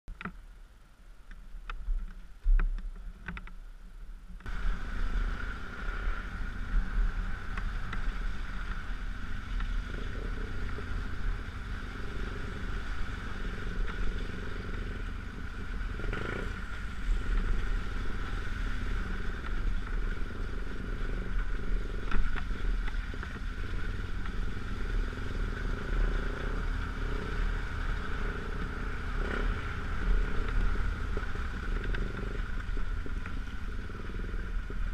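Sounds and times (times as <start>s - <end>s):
knocks and clatters over ruts: 0.1s - 34.9s
motorcycle engine drone: 1.2s - 34.9s.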